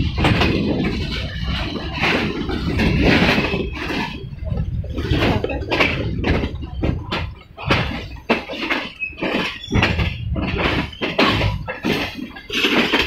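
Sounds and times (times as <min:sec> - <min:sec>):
train rumbling at speed: 0:00.0 - 0:13.0
wheels clattering over rail joints: 0:00.0 - 0:13.0.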